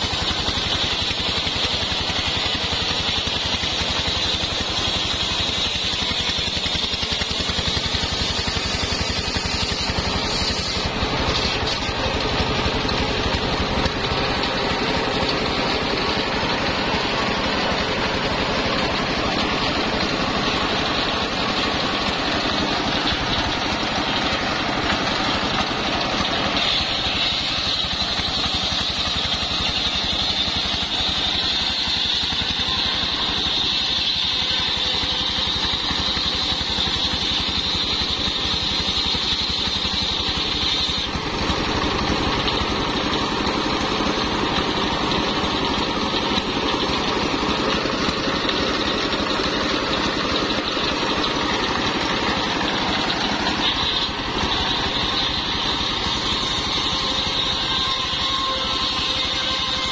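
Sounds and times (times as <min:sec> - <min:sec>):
diesel engine running: 0:00.0 - 0:59.9
saw blade whining through log: 0:00.0 - 0:59.9.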